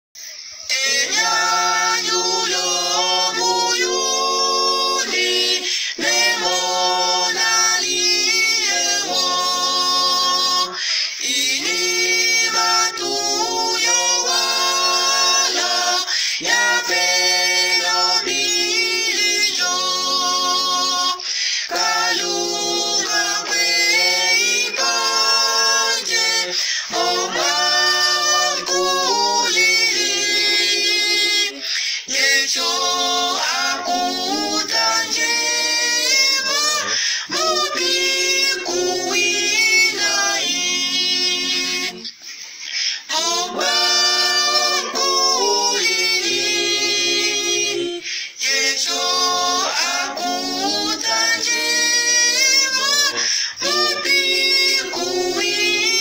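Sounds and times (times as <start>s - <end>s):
man singing hymn in harmony: 0.7s - 42.1s, 43.0s - 56.0s.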